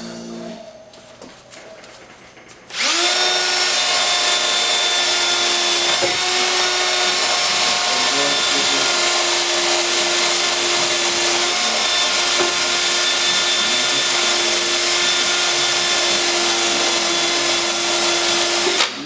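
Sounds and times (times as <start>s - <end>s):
wire wheel rasping on metal: 2.1s - 18.8s
drill motor whine: 2.7s - 19.0s.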